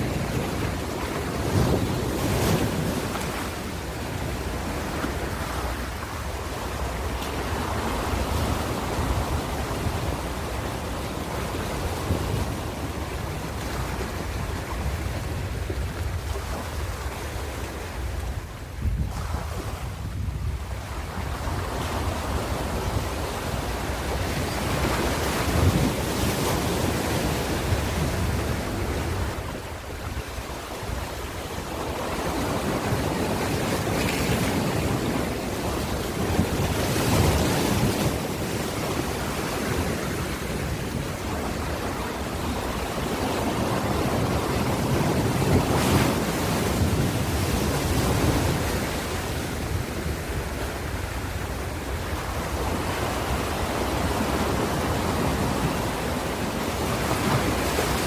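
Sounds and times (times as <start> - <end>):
waves breaking and washing in: 0.0 - 58.0.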